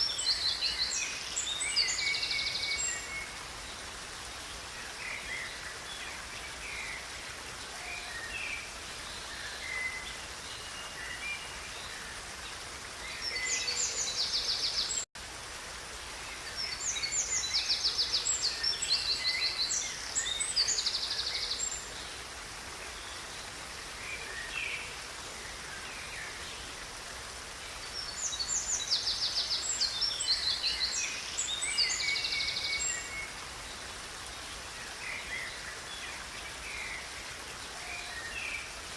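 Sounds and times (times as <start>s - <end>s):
songbirds singing: 0.0s - 15.1s, 16.1s - 38.9s.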